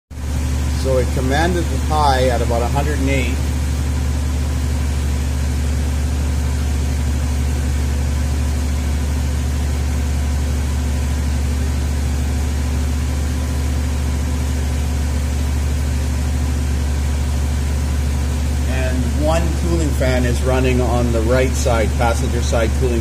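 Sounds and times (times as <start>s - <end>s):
car engine running: 0.1s - 23.0s
cooling fan humming: 0.1s - 23.0s.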